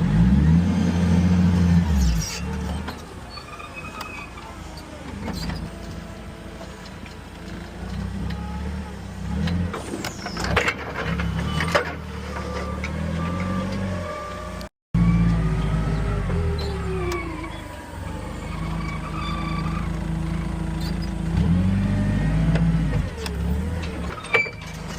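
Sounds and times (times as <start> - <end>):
heavy vehicle engine running: 0.0 - 24.9.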